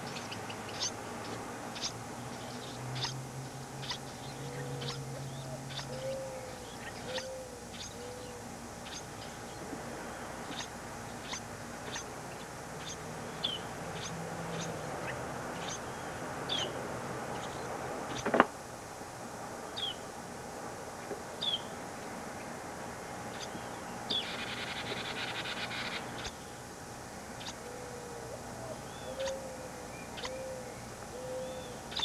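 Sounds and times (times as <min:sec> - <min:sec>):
small birds chirping: 0:00.0 - 0:18.4, 0:19.7 - 0:20.1, 0:21.4 - 0:21.8, 0:23.2 - 0:26.7, 0:27.3 - 0:32.0
rapid buzzy bird chatter: 0:00.0 - 0:18.5, 0:23.2 - 0:32.0
tape hiss: 0:00.0 - 0:32.0.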